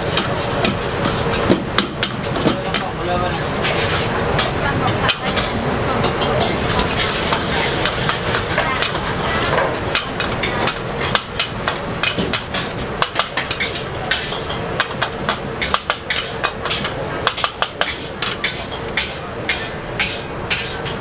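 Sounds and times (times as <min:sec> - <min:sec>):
metal ladle scraping a wok: 0:03.5 - 0:21.0.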